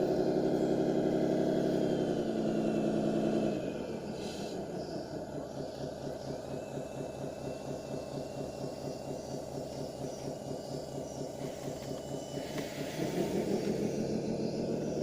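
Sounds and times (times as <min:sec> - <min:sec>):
model bulldozer engine beat: 0:00.0 - 0:15.0.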